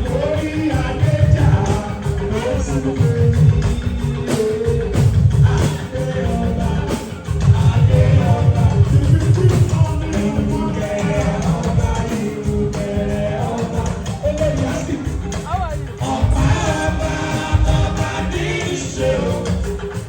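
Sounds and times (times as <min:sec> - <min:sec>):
party music with singing: 0:00.0 - 0:20.0.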